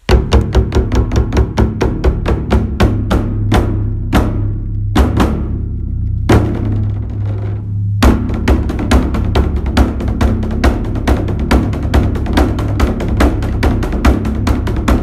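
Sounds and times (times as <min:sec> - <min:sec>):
large drum struck with sticks: 0:00.0 - 0:15.0.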